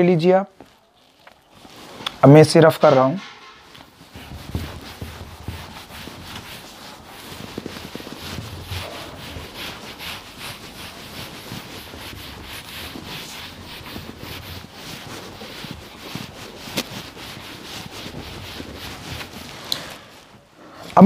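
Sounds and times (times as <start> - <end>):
eraser rubbing whiteboard: 1.6 - 20.3.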